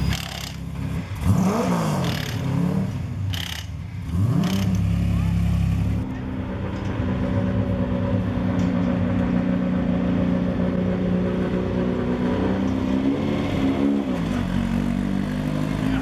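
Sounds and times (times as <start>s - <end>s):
vehicle engine idling and revving: 0.0s - 16.0s.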